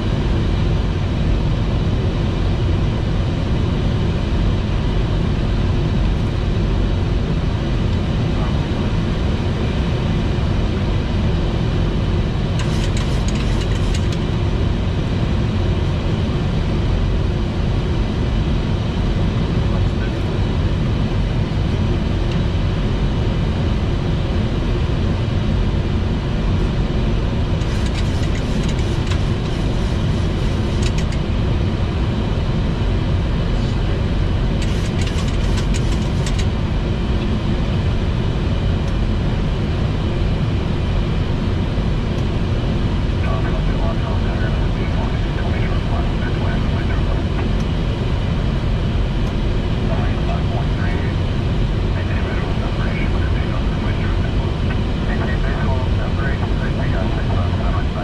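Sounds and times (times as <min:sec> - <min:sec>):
airflow and engine rush: 0:00.0 - 0:58.0.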